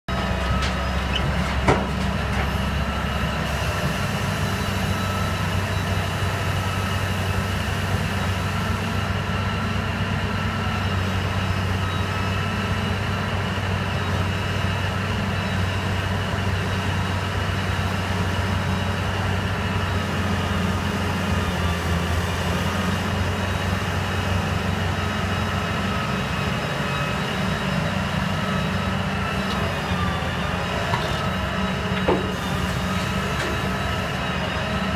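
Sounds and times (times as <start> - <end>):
heavy diesel engines running: 0.0 - 34.9.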